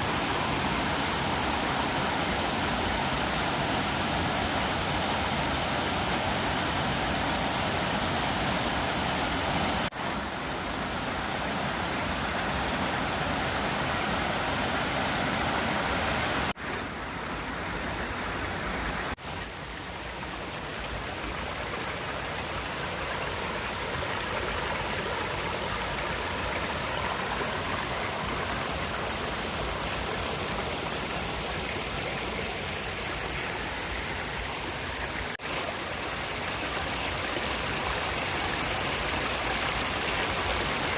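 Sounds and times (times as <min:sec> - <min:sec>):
waterfall rushing: 0:00.0 - 0:19.2, 0:23.2 - 0:40.9.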